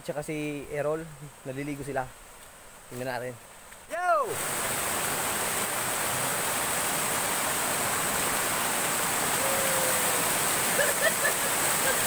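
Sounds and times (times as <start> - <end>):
small waterfall over rocks: 0.1 - 12.0.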